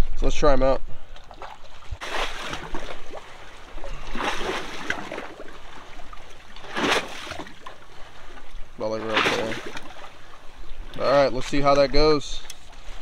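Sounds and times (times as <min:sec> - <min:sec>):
shallow water lapping and splashing: 0:01.0 - 0:13.0.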